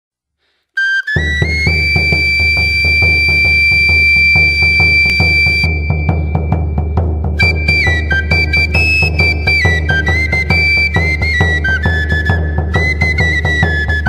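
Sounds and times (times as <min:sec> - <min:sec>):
high flute melody: 0:00.8 - 0:14.0
steady drumbeat: 0:01.2 - 0:14.0.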